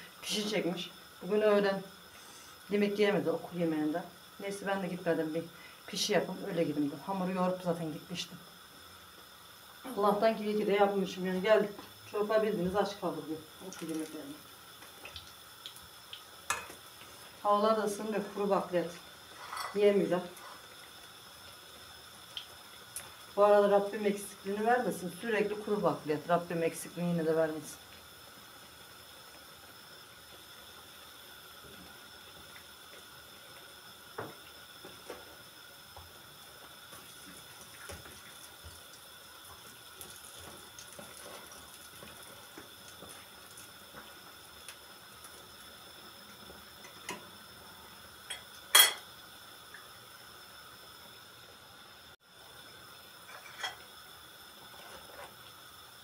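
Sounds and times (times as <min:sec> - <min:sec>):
faint steady hiss: 0:00.0 - 0:56.0.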